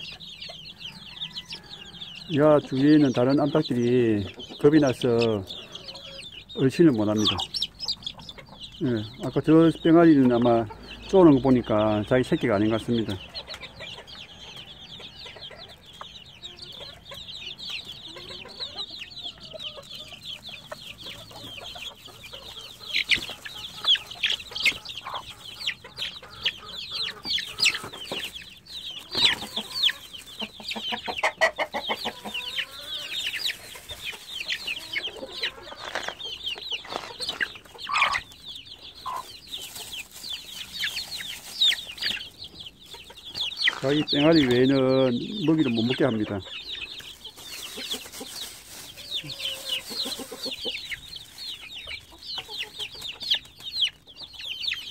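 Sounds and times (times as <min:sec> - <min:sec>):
chicks peeping: 0:00.0 - 0:54.9
hen clucking: 0:00.0 - 0:54.9.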